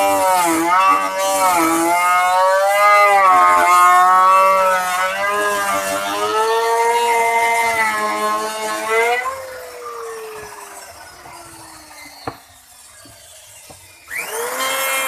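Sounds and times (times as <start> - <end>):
wood router cutting: 0.0 - 15.0.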